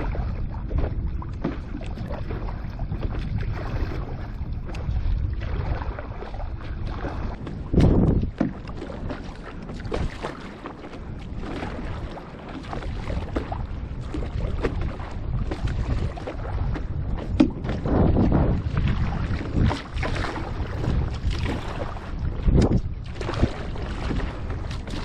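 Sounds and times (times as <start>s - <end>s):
water splashing against a board: 0.0s - 25.0s
wind buffeting microphone: 0.0s - 25.0s.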